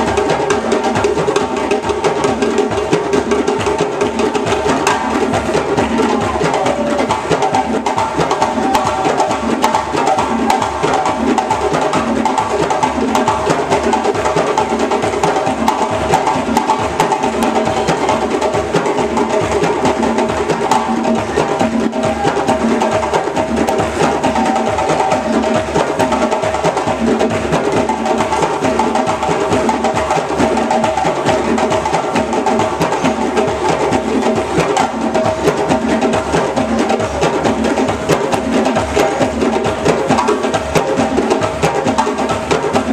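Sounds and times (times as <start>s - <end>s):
djembe hand drums: 0.0s - 42.9s.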